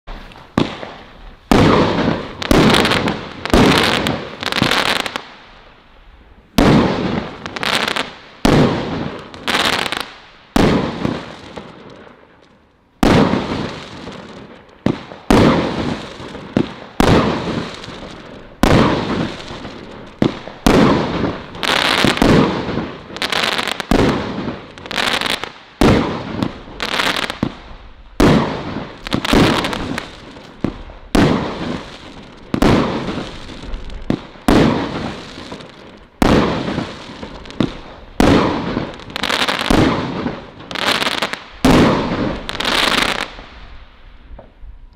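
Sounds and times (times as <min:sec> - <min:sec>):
firework bangs: 0:00.1 - 0:05.8, 0:06.4 - 0:44.6
firework crackling: 0:00.1 - 0:44.9.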